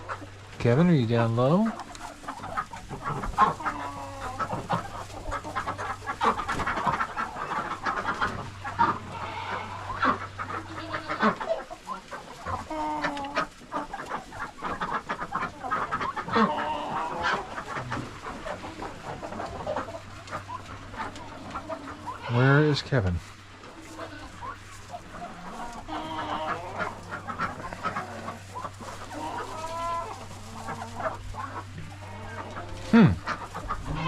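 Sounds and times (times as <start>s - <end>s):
chickens clucking: 0.0s - 34.0s
low steady hum: 0.0s - 34.0s.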